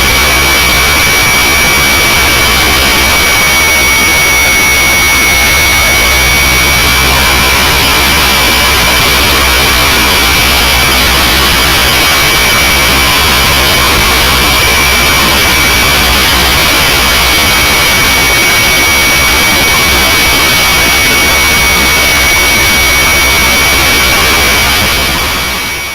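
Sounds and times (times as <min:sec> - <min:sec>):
high whine of rotors: 0:00.0 - 0:25.9
model helicopter rushing noise: 0:00.0 - 0:25.9.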